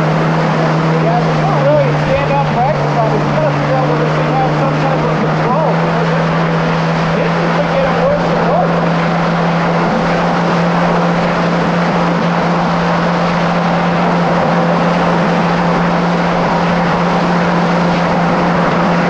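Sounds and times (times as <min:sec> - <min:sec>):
jet ski engine drone: 0:00.0 - 0:19.0
water spray rushing: 0:00.0 - 0:19.0
wind: 0:00.0 - 0:19.0.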